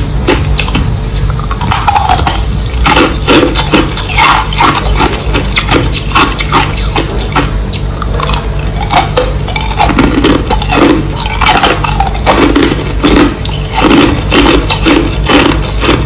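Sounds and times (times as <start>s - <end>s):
crushed ice being chewed: 0.0s - 16.0s
steady low hum: 0.0s - 16.0s.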